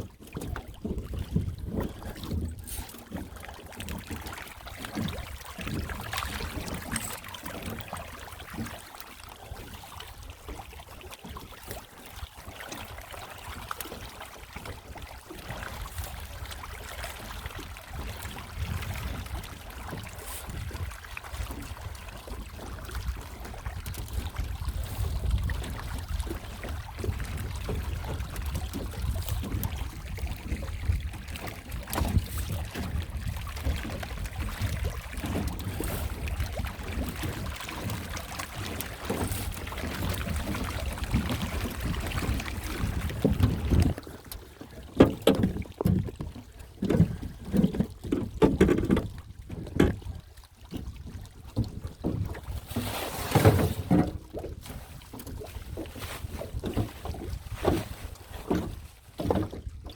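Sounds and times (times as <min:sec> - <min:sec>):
low boat rumble: 0:00.0 - 0:59.9.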